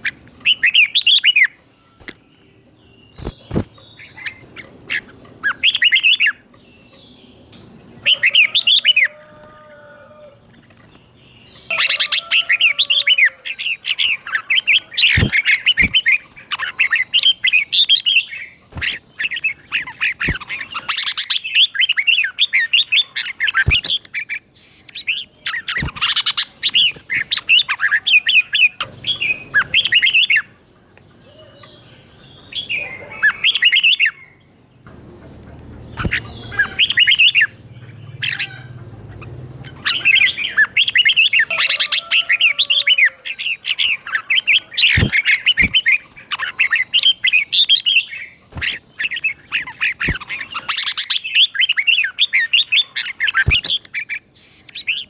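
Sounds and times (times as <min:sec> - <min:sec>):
bird warbling whistled song: 0:00.0 - 0:02.3, 0:03.0 - 0:09.2, 0:11.3 - 0:30.6, 0:31.3 - 0:55.0.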